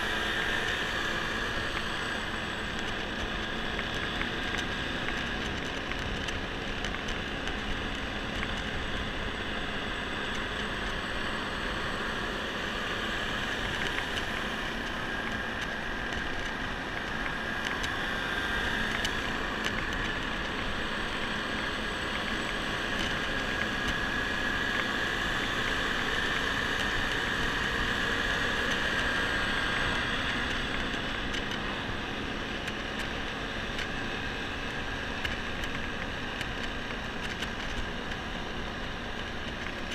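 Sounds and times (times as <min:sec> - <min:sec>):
high steady whine: 0:00.0 - 0:39.9
scooter engine running: 0:00.0 - 0:39.9.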